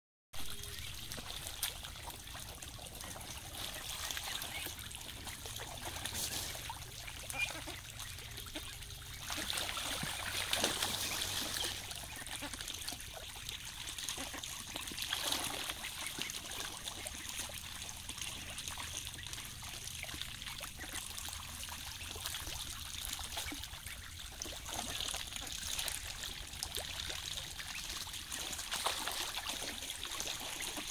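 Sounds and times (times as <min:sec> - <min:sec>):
water splashing and trickling: 0:00.4 - 0:30.9.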